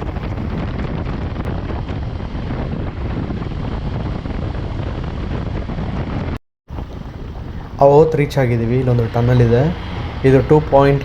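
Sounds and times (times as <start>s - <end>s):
motorcycle engine running: 0.0s - 11.0s
wind rushing on microphone: 0.0s - 11.0s.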